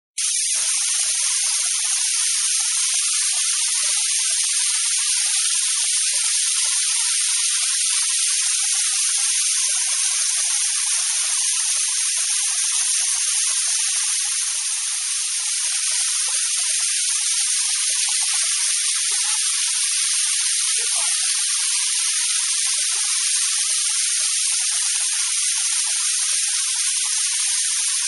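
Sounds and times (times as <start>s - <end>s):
small waterfall splashing: 0.2s - 28.0s.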